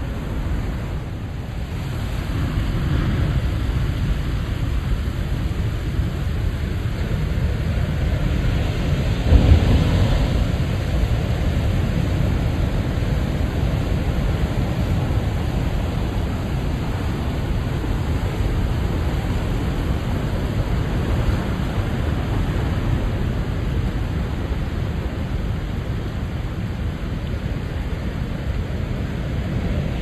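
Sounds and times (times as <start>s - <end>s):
ocean waves washing: 0.0s - 30.0s.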